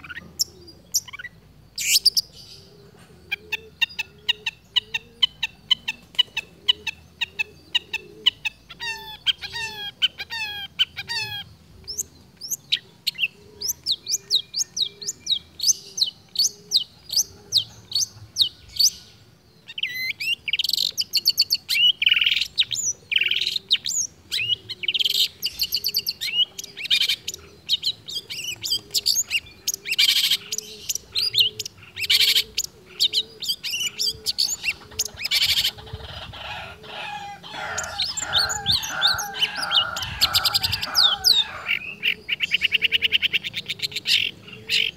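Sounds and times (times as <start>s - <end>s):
bird singing chirps and trills: 0.0s - 44.9s.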